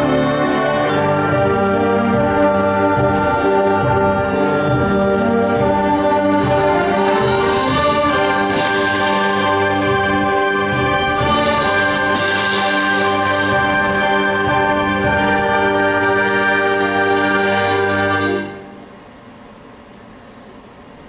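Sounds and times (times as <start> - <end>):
concert band playing chords: 0.0 - 18.6.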